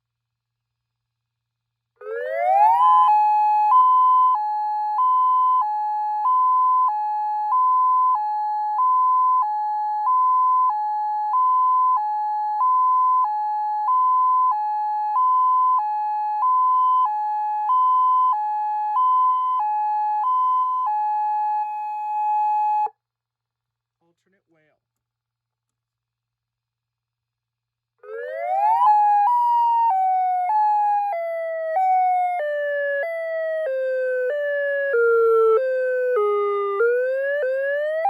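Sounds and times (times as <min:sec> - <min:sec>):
high-low electronic siren: 0:02.0 - 0:23.0, 0:28.0 - 0:38.0.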